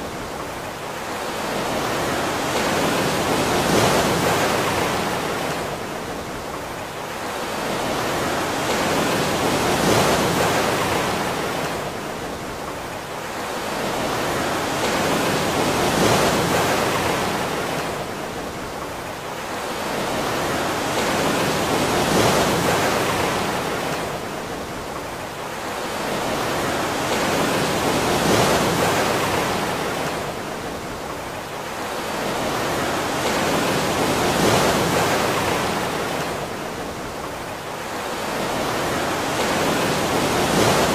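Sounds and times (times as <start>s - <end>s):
ocean waves washing in: 0.0s - 40.9s.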